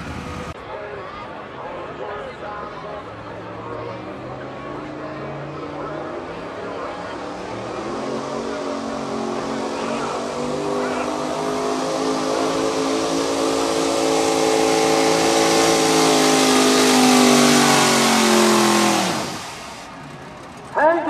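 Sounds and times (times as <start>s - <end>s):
pickup truck engine at full throttle: 3.2s - 20.8s.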